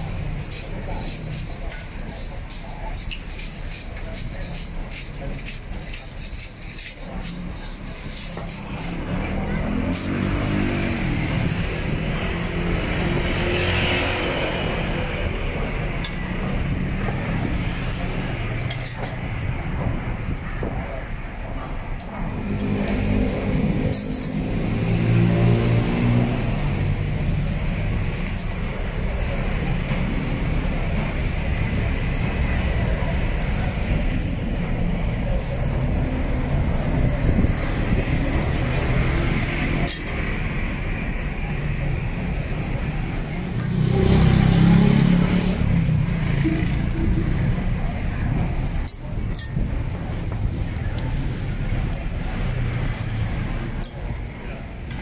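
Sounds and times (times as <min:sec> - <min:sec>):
street traffic: 0:00.0 - 0:55.0.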